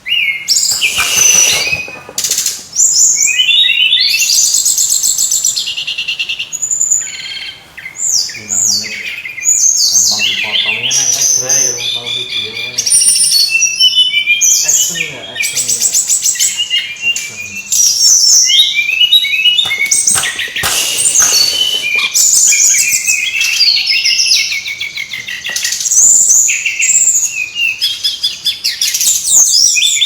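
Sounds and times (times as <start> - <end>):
bird singing rapid chirps and trills: 0.0 - 30.0.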